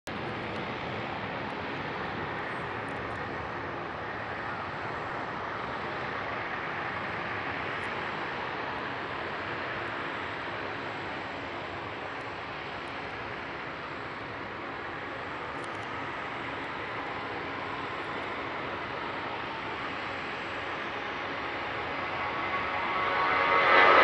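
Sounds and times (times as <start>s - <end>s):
jet engine roar: 0.1s - 24.0s.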